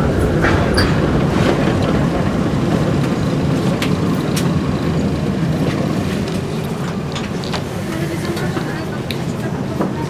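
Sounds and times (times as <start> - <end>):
streetcar rumbling on rails: 0.0 - 10.0.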